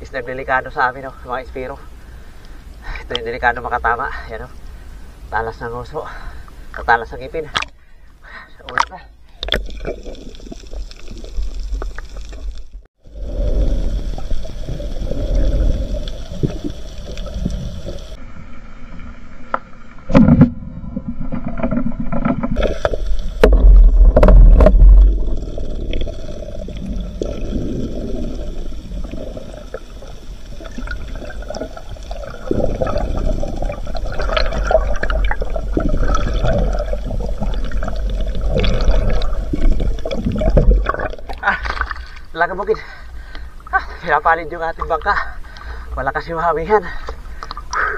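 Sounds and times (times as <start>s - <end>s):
underwater water rushing: 8.7s - 47.9s.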